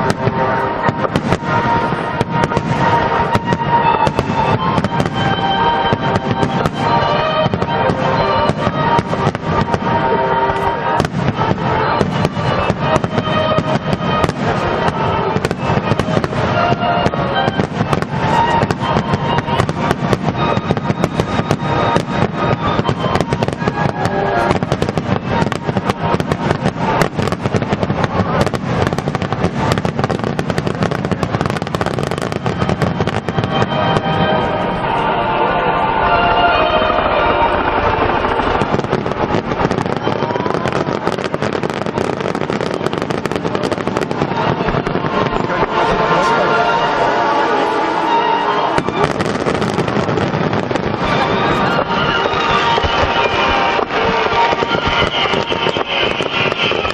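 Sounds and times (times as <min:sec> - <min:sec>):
aerial fireworks bursting: 0:00.0 - 0:56.9
music with held tones: 0:00.0 - 0:56.9.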